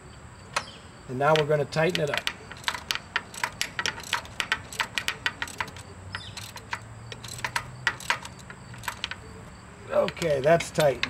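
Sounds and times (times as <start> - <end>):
socket ratchet clicking: 0.5 - 11.0.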